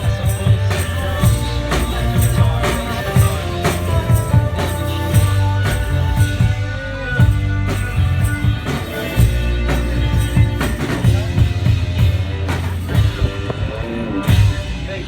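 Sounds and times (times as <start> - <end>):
bass notes: 0.0 - 15.0
steady drum beat: 0.0 - 15.0.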